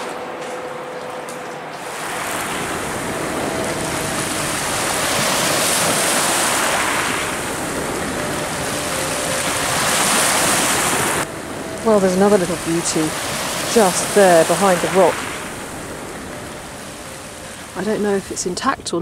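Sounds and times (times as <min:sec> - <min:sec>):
small waves washing over stones: 0:01.8 - 0:18.4.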